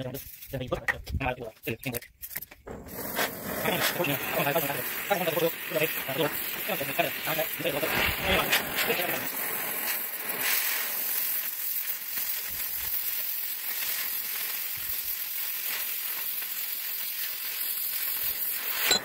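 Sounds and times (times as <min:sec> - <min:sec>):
cutting torch hissing: 0:02.7 - 0:19.0.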